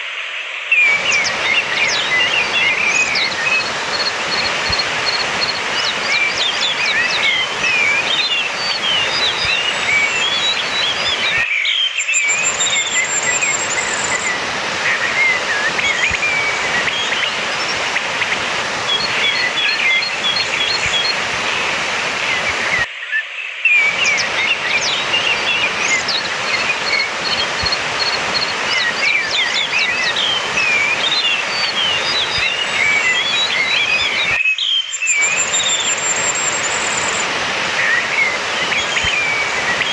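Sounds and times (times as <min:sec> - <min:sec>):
bird song: 0:00.7 - 0:39.9.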